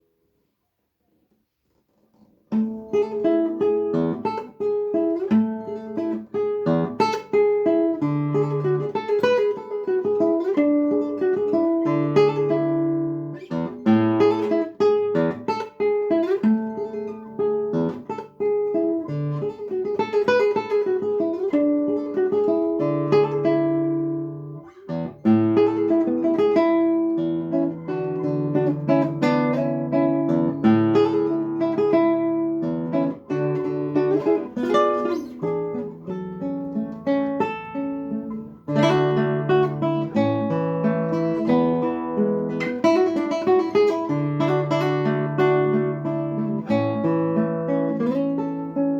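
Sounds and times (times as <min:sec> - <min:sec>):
acoustic guitar playing: 0:02.5 - 0:48.9.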